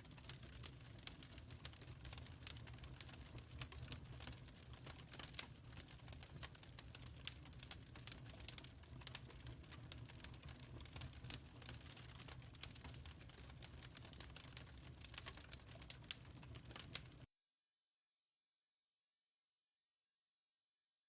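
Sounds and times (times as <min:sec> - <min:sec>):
wood fire crackling: 0:00.0 - 0:17.3.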